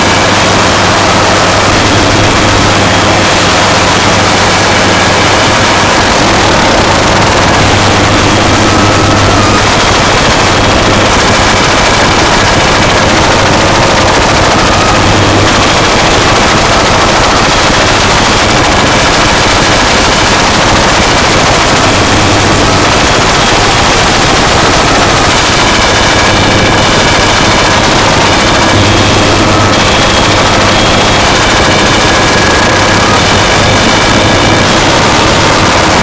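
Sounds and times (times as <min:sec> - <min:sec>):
distorted electronic static: 0:00.0 - 0:36.0.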